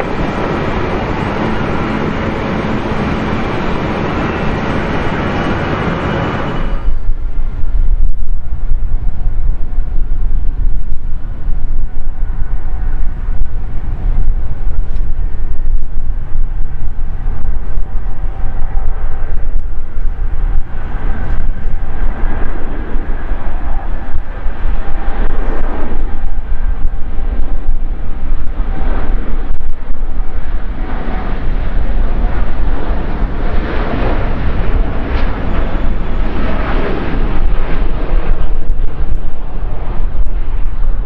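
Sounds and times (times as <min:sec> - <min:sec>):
jet engine whine: 0:00.0 - 0:41.0
jet engines rumbling: 0:00.0 - 0:41.0.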